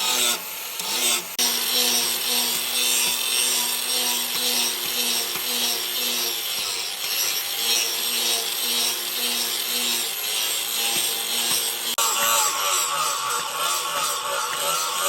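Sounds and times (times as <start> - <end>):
hand scraping steel: 0.0 - 15.0.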